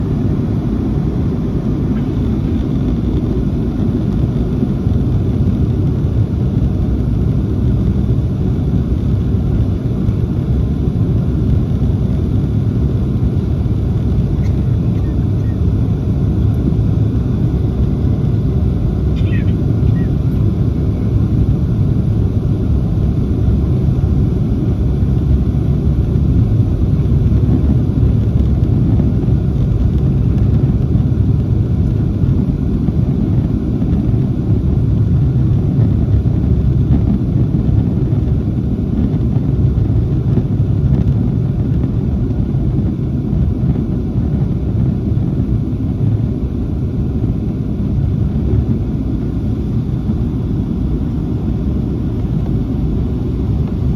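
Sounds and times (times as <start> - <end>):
air rushing along fuselage: 0.0 - 53.9
jet engines low rumble: 0.0 - 53.9.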